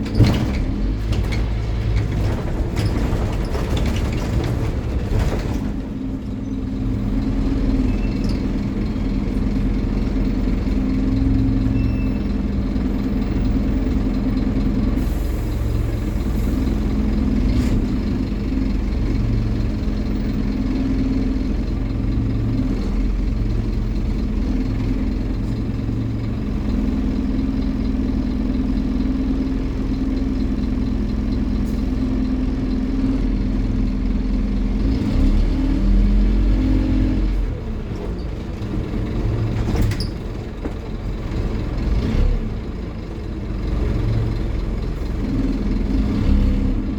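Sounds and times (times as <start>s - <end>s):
bus diesel engine idling: 0.0s - 46.9s.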